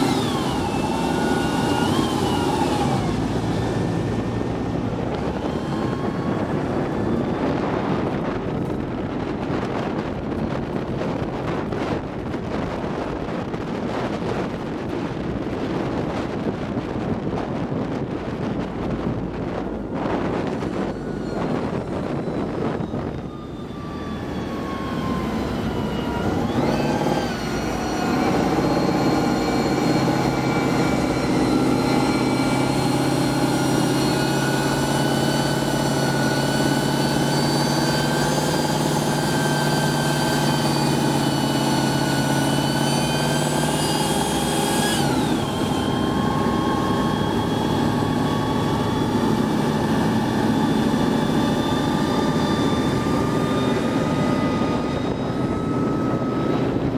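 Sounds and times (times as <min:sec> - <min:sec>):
tank engine whining under load: 0:00.0 - 0:56.9.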